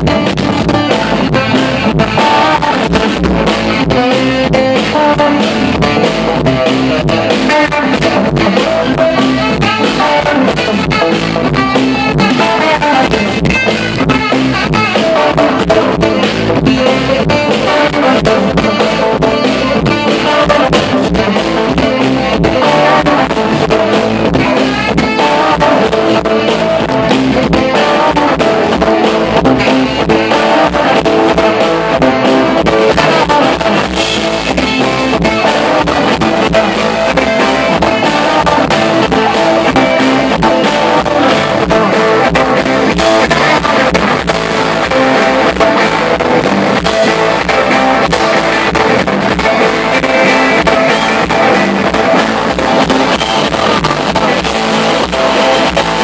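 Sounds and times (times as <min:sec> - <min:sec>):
electric guitar: 0:00.0 - 0:56.0
live band music: 0:00.0 - 0:56.0.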